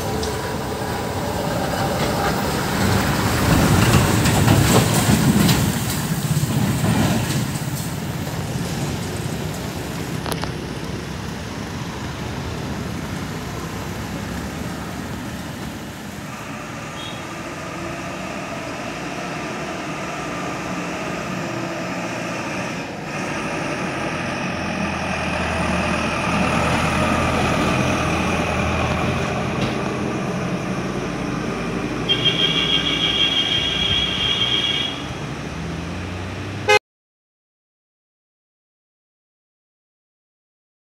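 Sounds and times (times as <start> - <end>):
car engines passing: 0.0 - 36.8
lorry diesel engine passing: 0.0 - 36.8.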